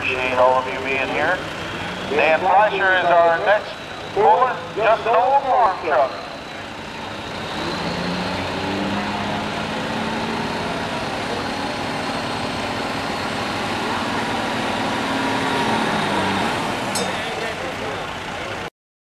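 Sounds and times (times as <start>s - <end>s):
diesel truck engine under heavy load: 0.0s - 18.7s.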